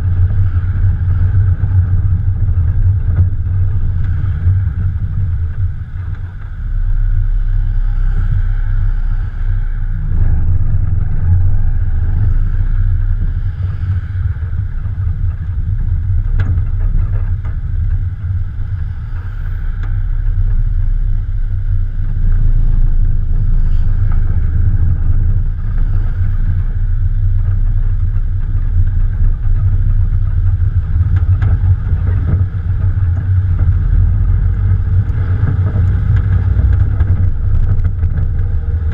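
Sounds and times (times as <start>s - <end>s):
engine deep rumble: 0.0s - 38.9s.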